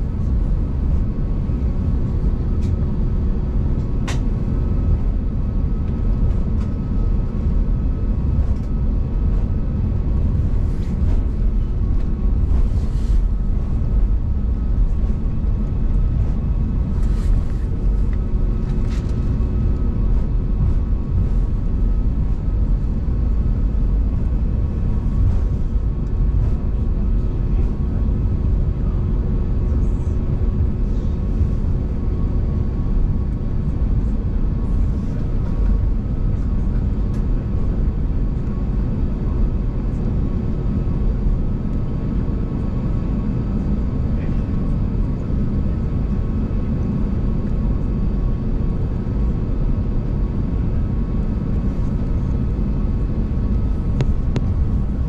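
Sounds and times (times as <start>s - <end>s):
jet engines idling: 0.0s - 55.0s.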